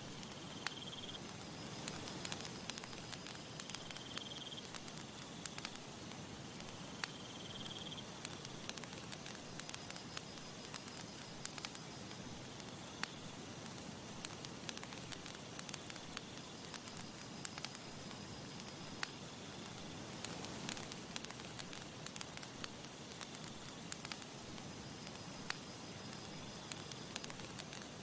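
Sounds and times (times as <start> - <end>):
campfire crackling and popping: 0.0 - 28.0
faint insect chirp: 0.0 - 28.0.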